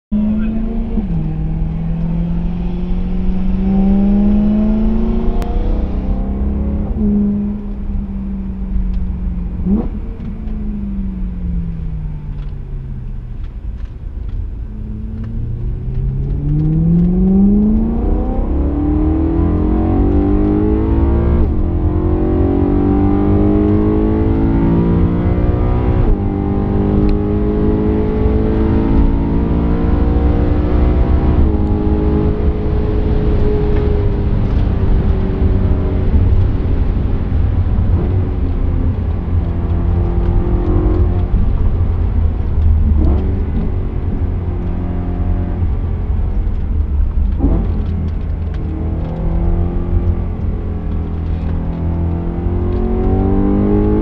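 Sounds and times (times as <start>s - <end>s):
car engine accelerating: 0.1s - 54.0s.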